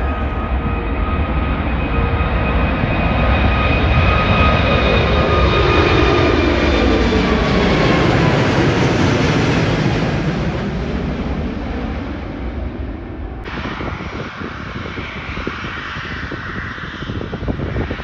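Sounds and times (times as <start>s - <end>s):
jet plane passing overhead: 0.0s - 18.0s.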